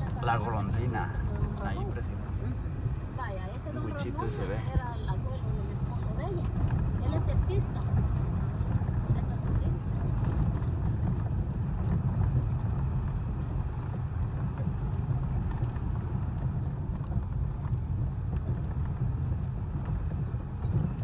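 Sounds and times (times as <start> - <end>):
car driving over cobblestones: 0.0 - 21.0.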